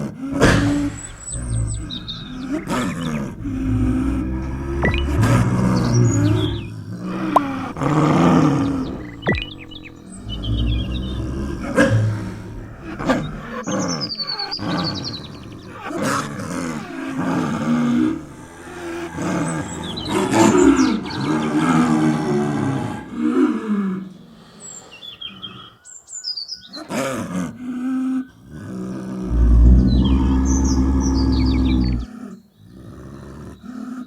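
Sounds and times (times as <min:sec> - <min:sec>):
birds chirping: 0:00.0 - 0:27.0, 0:28.2 - 0:33.8
snow leopard calling: 0:00.0 - 0:27.3.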